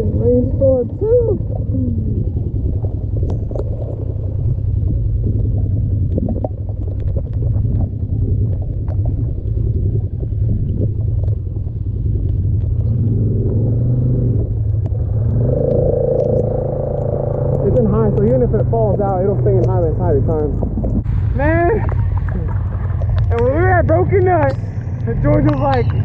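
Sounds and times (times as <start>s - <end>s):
atv engine rumbling: 0.0s - 26.0s.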